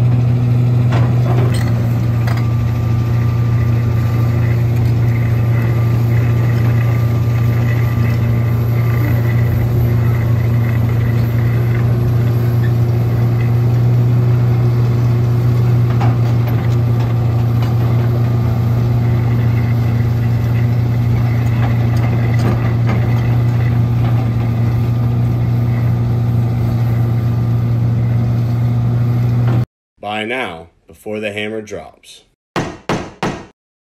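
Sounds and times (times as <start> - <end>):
diesel engine idling: 0.0 - 29.6.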